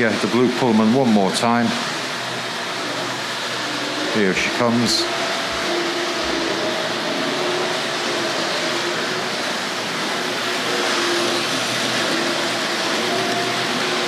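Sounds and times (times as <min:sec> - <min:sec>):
model train whirring and rattling: 0:00.0 - 0:14.0.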